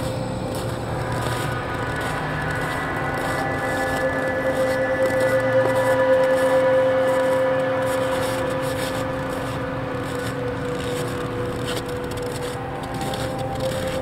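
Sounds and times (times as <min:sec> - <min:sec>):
ambient drone hum: 0:00.0 - 0:14.0
hiss and crackle: 0:00.0 - 0:14.0.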